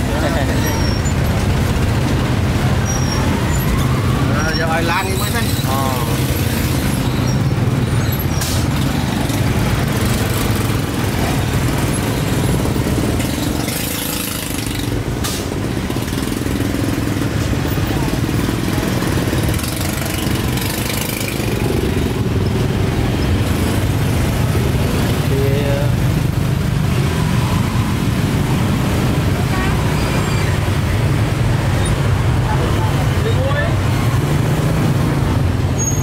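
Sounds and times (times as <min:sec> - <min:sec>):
motorbike engines passing: 0:00.0 - 0:36.0.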